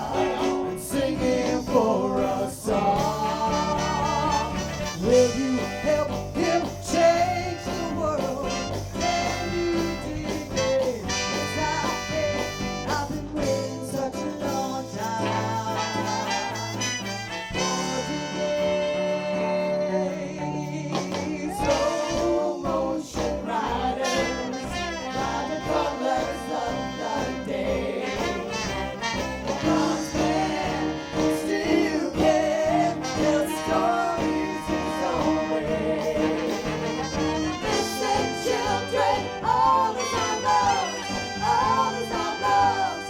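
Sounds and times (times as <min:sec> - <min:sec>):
trumpet: 0:00.0 - 0:01.3, 0:02.2 - 0:13.8, 0:15.2 - 0:22.9, 0:23.7 - 0:43.0
drums keeping a steady beat: 0:00.0 - 0:16.9, 0:21.0 - 0:43.0
trombone: 0:00.0 - 0:20.2, 0:21.0 - 0:43.0
bass: 0:00.0 - 0:43.0
keyboard: 0:00.0 - 0:43.0
saxophone: 0:02.9 - 0:13.6, 0:15.2 - 0:22.9, 0:23.9 - 0:43.0.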